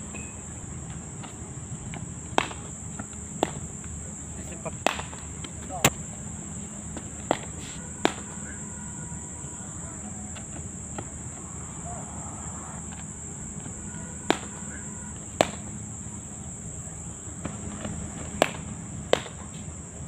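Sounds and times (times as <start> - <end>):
cricket bats striking balls: 0.0 - 20.0.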